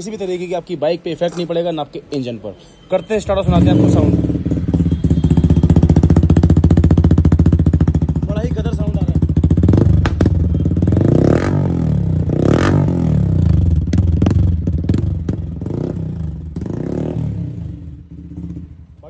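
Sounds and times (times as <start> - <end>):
motorcycle engine revving: 3.2 - 19.0.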